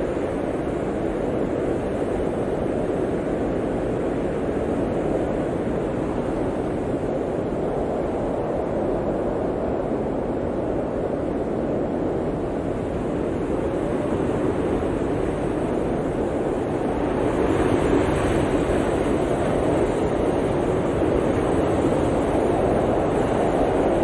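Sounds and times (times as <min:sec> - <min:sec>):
blizzard wind rushing: 0:00.0 - 0:24.0.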